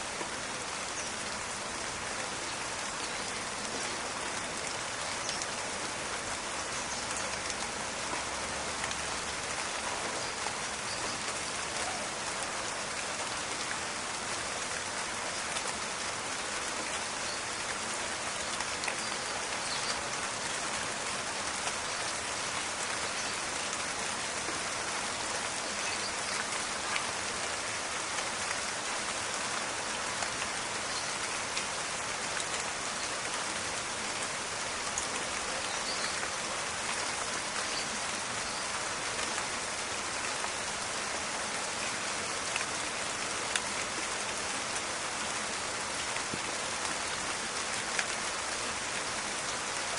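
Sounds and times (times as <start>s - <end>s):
rain patter in forest: 0.0s - 49.9s.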